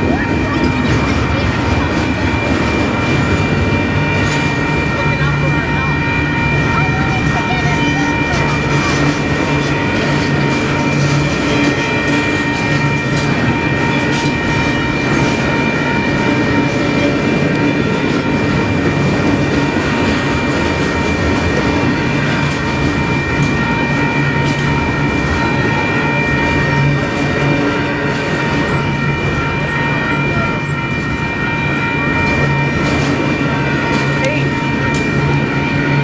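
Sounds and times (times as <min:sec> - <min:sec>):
freight train rumbling past: 0:00.0 - 0:36.0
steady high tone: 0:00.0 - 0:36.0.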